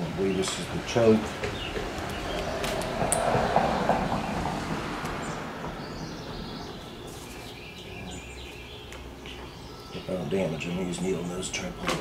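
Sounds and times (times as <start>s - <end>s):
songbird chirping: 0.2s - 12.0s.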